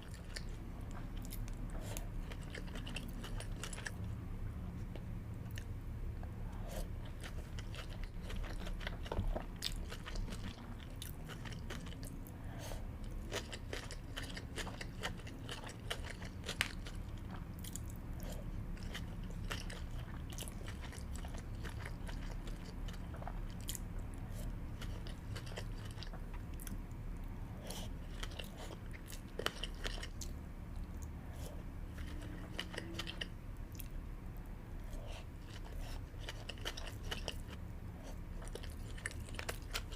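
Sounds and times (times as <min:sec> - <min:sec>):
chewing food close up: 0:00.0 - 0:04.2, 0:06.7 - 0:39.9.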